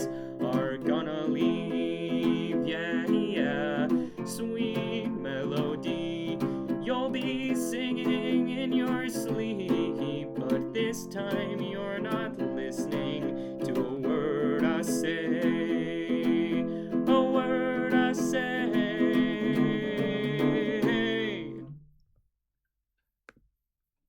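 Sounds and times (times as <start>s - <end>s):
person singing: 0.0s - 21.8s
ukulele strumming: 0.0s - 21.8s.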